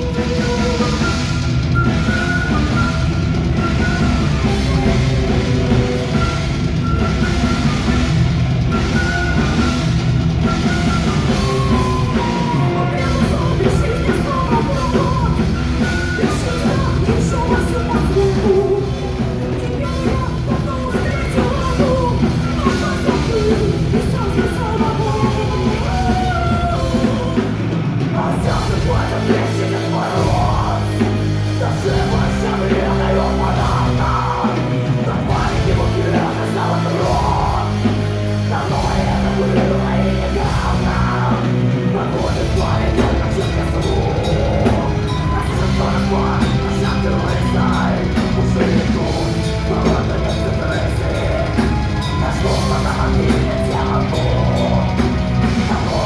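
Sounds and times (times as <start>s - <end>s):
heavy rock music: 0.0s - 56.0s.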